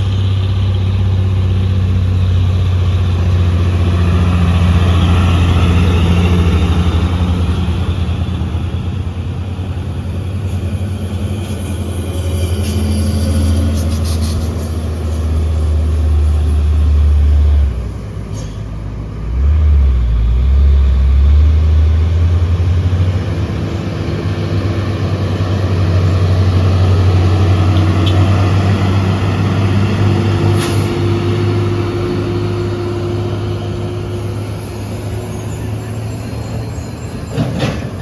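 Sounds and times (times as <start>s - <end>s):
diesel truck engine labouring: 0.0s - 38.0s.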